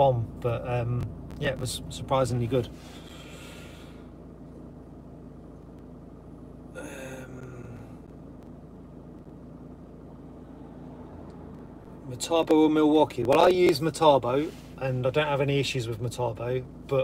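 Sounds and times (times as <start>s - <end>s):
van cabin mechanical hum: 0.0s - 17.0s.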